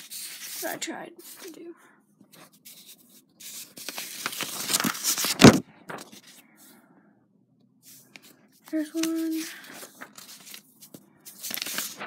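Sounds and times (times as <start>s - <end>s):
paper rustling and sliding: 0.0s - 1.6s, 2.3s - 6.7s, 7.8s - 12.0s.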